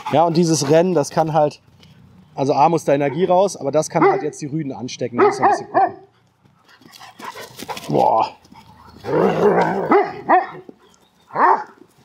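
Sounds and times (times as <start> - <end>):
dogs barking and growling: 0.0 - 2.2, 2.8 - 4.4, 5.2 - 11.9.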